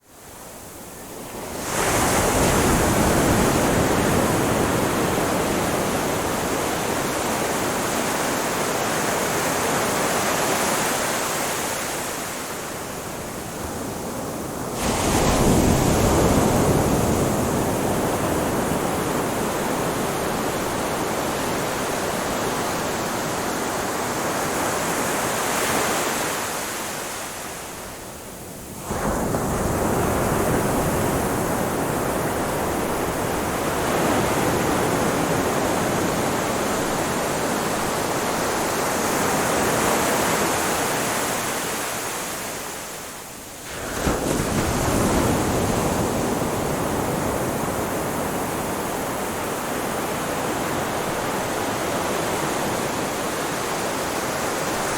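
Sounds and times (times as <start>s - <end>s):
waves breaking on shore: 0.2s - 54.9s.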